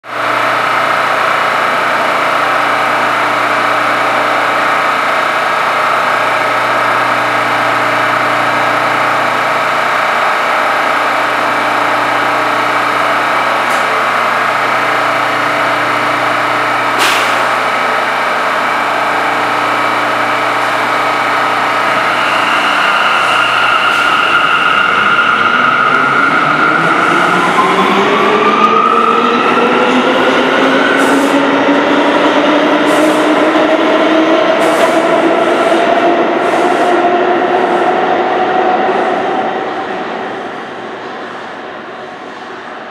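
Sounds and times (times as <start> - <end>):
subway train equipment hum: 0.0 - 42.9.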